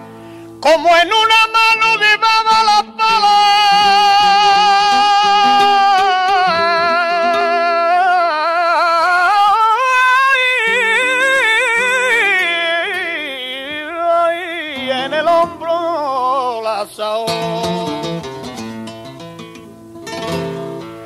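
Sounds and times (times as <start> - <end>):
flamenco guitar: 0.0 - 21.0
man singing wordless melisma: 0.0 - 21.0.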